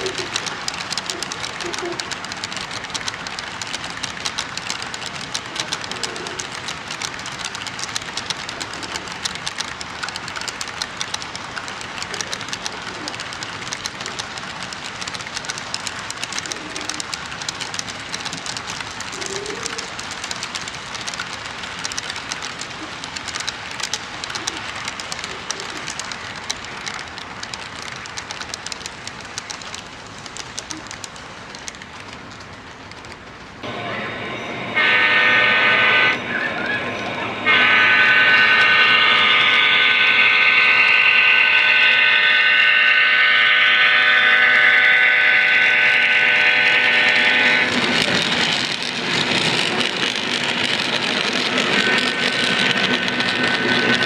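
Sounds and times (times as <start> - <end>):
model train wheels clicking: 0.0 - 33.7, 34.8 - 54.0
constant hiss: 0.0 - 54.0.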